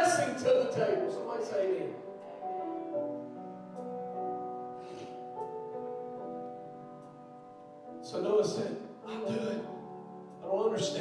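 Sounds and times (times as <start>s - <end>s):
soft keyboard chords: 0.0s - 11.0s.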